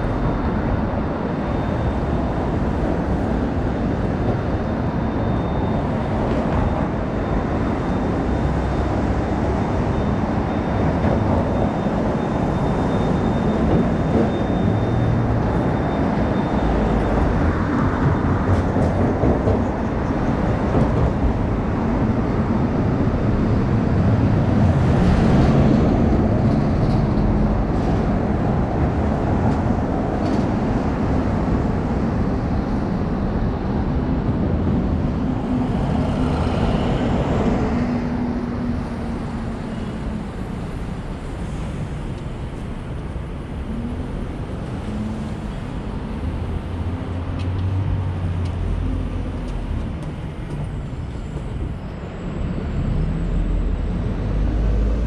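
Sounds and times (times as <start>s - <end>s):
rumble of passing vehicles: 0.0s - 55.0s.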